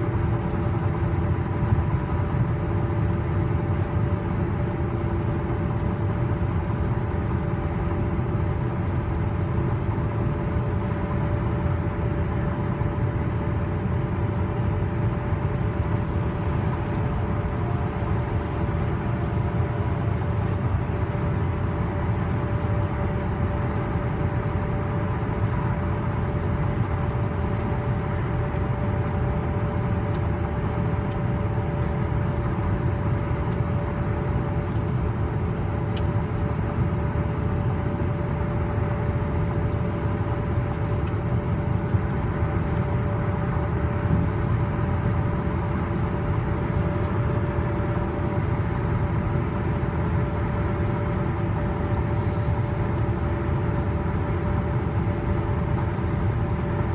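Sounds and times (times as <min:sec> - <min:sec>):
constant droning hum: 0:00.0 - 0:56.9.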